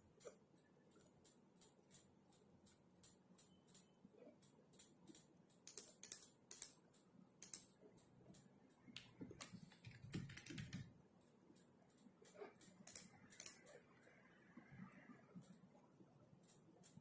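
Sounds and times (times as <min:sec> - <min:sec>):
typing on computer keyboard: 0:00.0 - 0:17.0.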